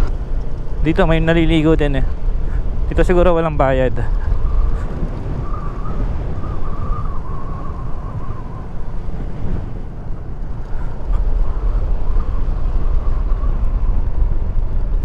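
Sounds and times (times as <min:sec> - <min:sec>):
scooter engine drone: 0:00.0 - 0:15.0
wind buffeting microphone: 0:00.0 - 0:15.0.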